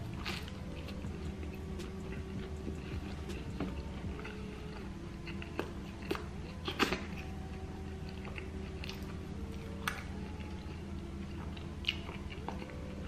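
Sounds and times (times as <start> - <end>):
person chewing food: 0.0 - 13.0
steady low hum: 0.0 - 13.0.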